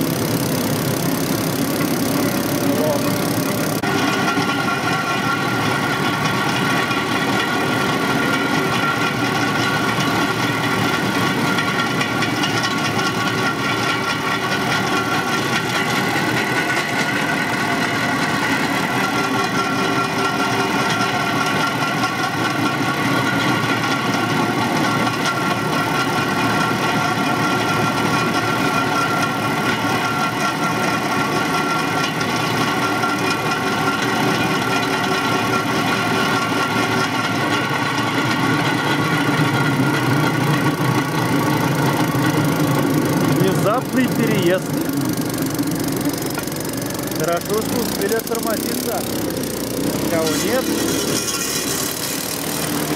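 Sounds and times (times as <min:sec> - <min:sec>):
rail cart rolling on track: 0:00.0 - 0:52.9
small engine humming: 0:00.0 - 0:52.9.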